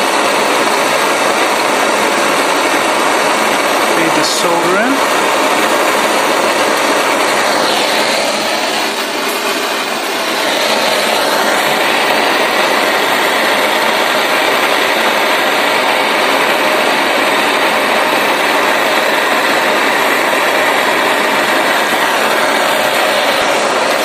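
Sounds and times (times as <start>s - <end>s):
blowtorch flame hissing: 0.0s - 24.0s.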